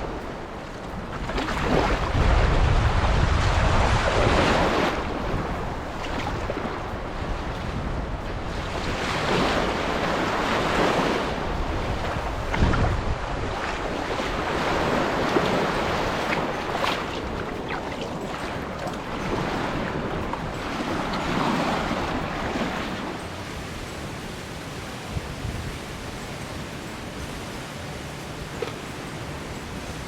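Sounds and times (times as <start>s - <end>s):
water washing in swells: 0.0s - 30.0s
wind on microphone: 0.0s - 30.0s.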